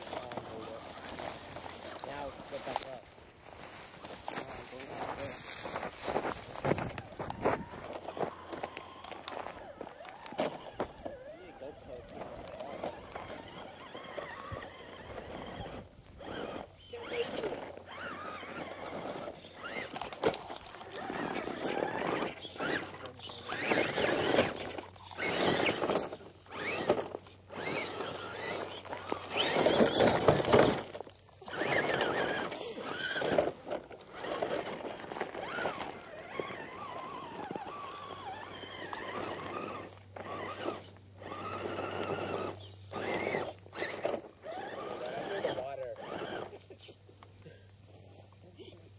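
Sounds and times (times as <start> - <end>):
toy car electric motor whining: 0.0 - 48.8
wheels crawling over loose rock: 0.0 - 48.8.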